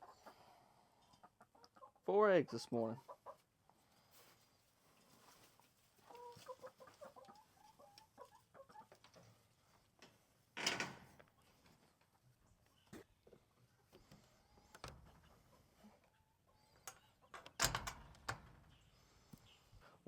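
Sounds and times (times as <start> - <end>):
chickens clucking: 0.0 - 3.6, 4.2 - 10.2, 11.3 - 17.6, 18.4 - 20.0.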